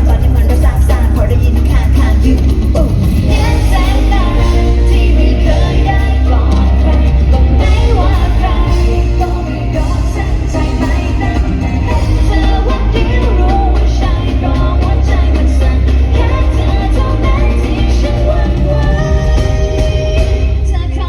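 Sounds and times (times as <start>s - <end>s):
loud live pop music: 0.0s - 21.0s
person singing: 0.0s - 21.0s.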